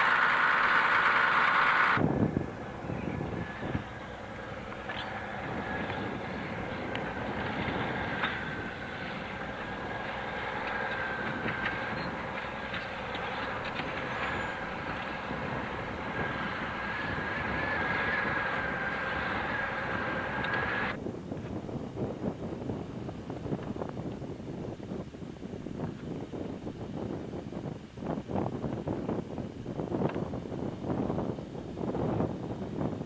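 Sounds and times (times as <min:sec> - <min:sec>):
vehicle engine running: 0:00.0 - 0:27.3
high steady whine: 0:00.0 - 0:33.0.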